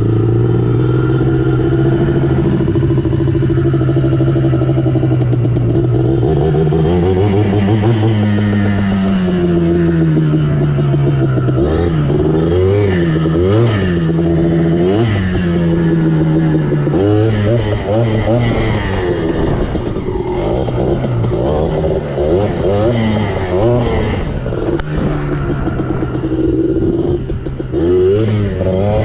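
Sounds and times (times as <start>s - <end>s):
two-stroke engine idling and revving: 0.0s - 29.0s.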